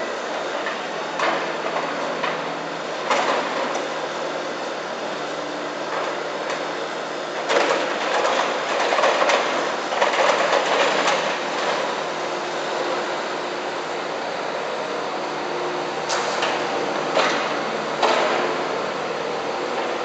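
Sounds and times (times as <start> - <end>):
excavator engine humming: 0.0 - 20.0.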